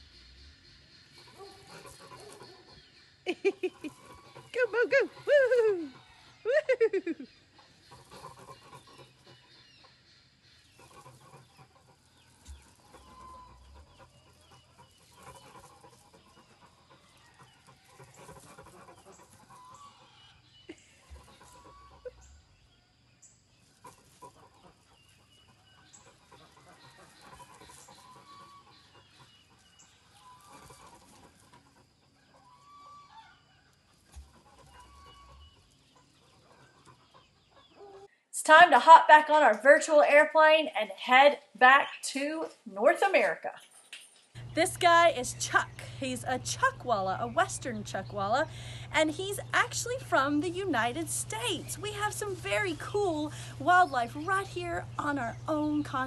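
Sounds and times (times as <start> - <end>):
chickens clucking: 0.0 - 38.2, 44.4 - 56.0.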